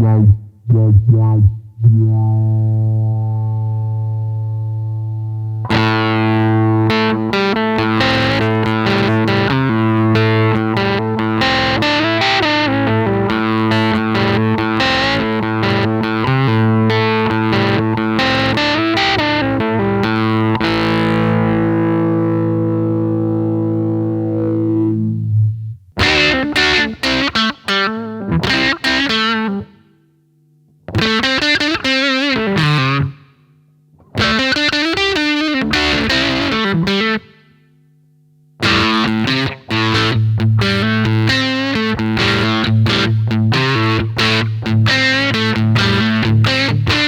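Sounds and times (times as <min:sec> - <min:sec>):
filtered electric guitar playing: 0:00.0 - 0:30.0, 0:30.8 - 0:37.9, 0:38.6 - 0:47.0.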